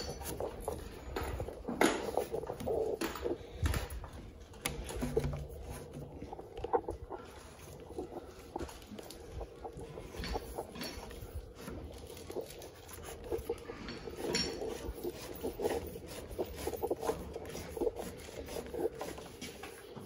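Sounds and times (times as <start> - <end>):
cable rubbing through wood holes: 0.0 - 20.0.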